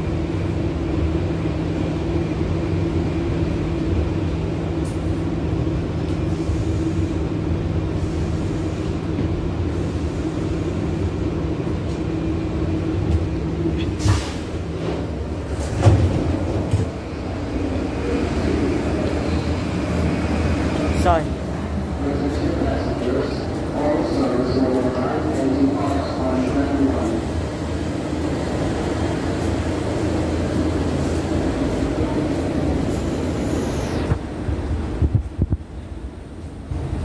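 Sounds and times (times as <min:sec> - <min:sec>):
subway train rumbling: 0:00.0 - 0:37.0.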